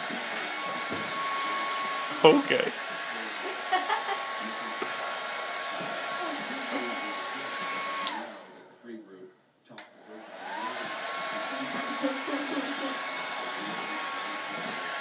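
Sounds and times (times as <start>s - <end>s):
hair dryer blowing: 0.0s - 8.4s, 10.0s - 15.0s.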